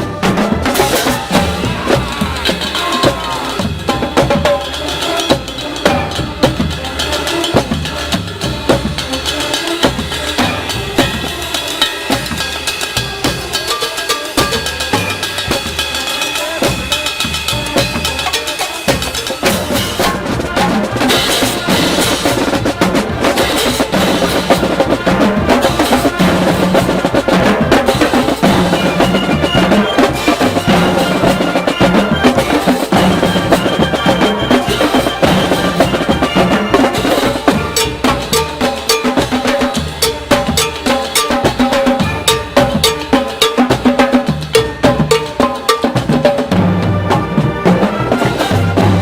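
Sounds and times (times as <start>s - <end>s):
brass melody: 0.0s - 49.0s
snare and bass drums: 0.0s - 49.0s.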